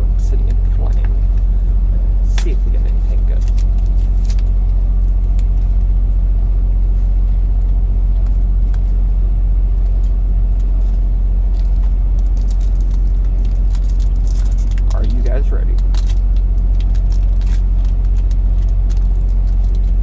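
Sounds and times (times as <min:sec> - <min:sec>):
motor vehicle rumbling: 0:00.0 - 0:20.0.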